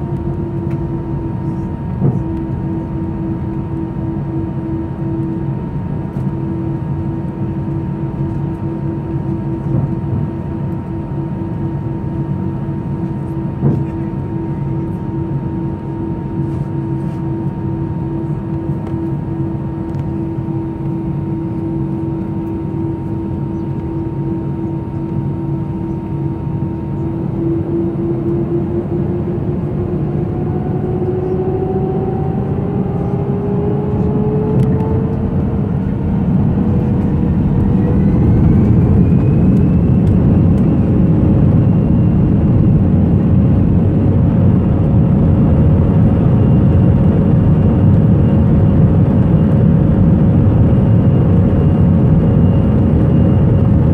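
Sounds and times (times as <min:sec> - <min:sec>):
jet engines whining and rumbling: 0:00.0 - 0:53.9.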